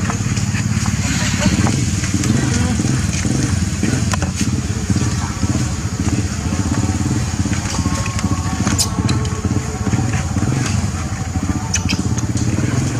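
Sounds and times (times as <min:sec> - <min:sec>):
engine running: 0:00.0 - 0:12.9.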